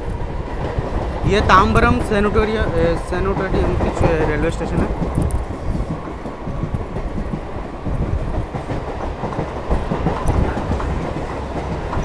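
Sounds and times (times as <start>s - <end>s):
train wheels rumbling on rails: 0.0s - 12.0s
train wheels knocking: 0.5s - 12.0s.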